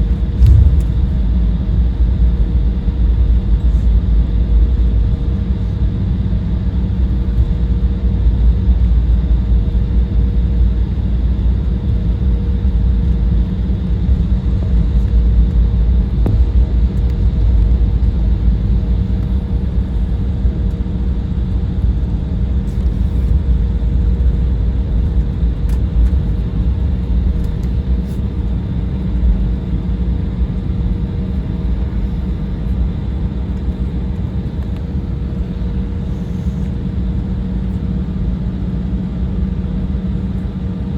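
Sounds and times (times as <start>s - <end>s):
engine whine: 0.0s - 39.0s
airliner cabin engine rumble: 0.0s - 40.9s.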